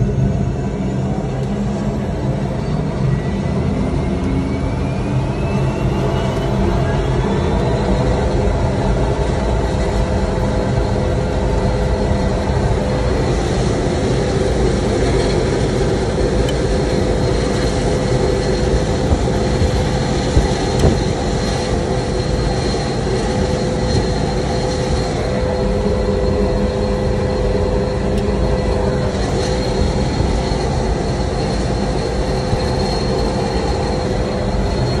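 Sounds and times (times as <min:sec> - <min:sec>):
low engine and propeller drone: 0:00.0 - 0:35.0
turboprop turbine whine: 0:00.0 - 0:35.0.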